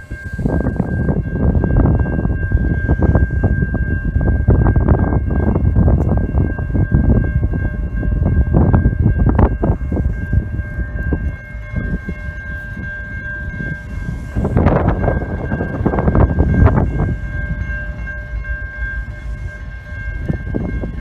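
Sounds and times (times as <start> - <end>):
railroad crossing warning sound: 0.0 - 21.0
wind rumble on microphone: 0.0 - 21.0.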